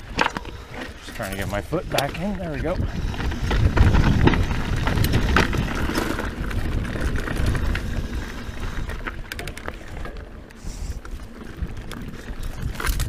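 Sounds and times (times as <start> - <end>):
bike clicks and rattles: 0.0 - 13.0
bike tyres rumbling on dirt: 0.0 - 13.0.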